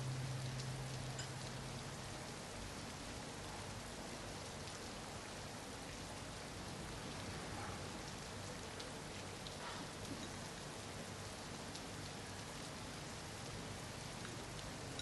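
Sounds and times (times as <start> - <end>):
faint drips and patters: 0.0 - 15.0
steady rain falling: 0.0 - 15.0.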